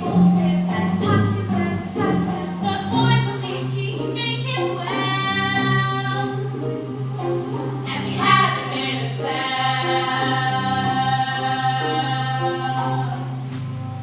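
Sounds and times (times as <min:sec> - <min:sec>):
girls singing in harmony: 0:00.0 - 0:06.3, 0:07.9 - 0:13.5.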